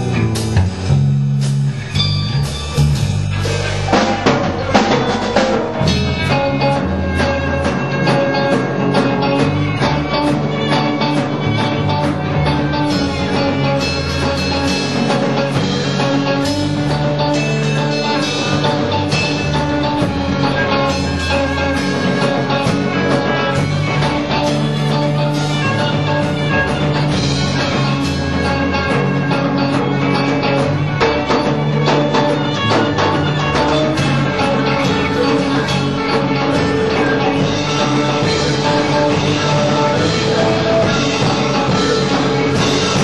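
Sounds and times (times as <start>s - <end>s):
rock music: 0.0s - 43.0s.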